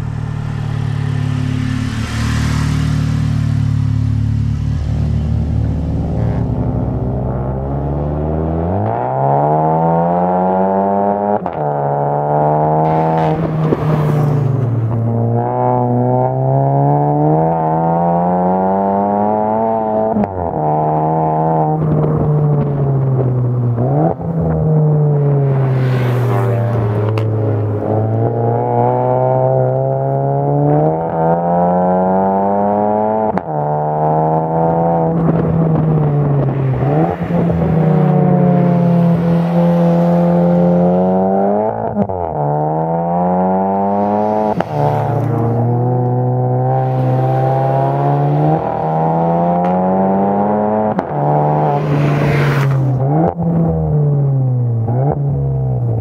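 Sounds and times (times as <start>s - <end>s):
car engine revving hard: 0.6s - 21.9s, 23.7s - 56.0s.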